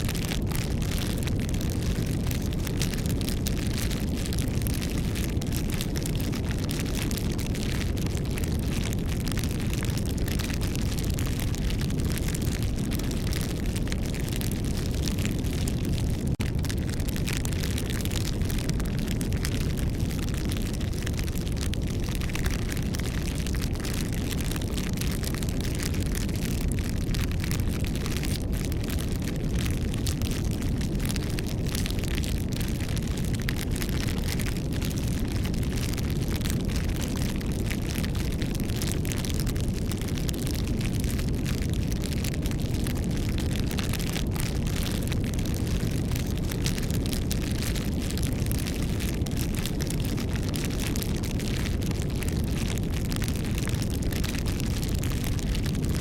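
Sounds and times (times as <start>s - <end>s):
wood crackling and popping: 0.0s - 56.0s
flames rushing: 0.2s - 55.6s.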